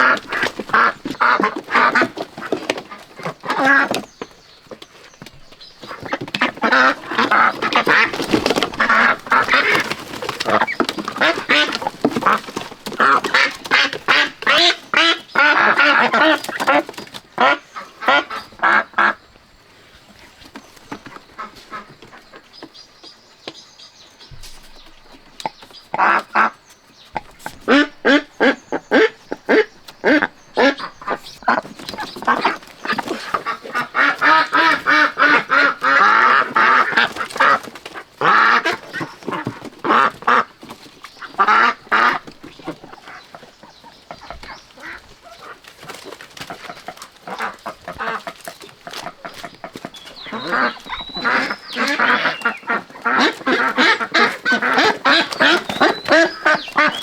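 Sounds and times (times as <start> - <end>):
flock of ducks quacking: 0.0 - 4.3, 5.8 - 19.3, 20.9 - 22.6, 25.9 - 57.0.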